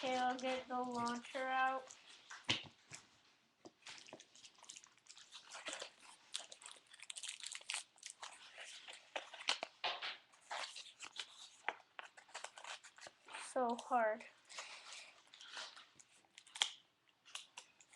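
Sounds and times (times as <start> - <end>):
plastic packaging crackling: 0.0 - 3.0, 3.7 - 17.9.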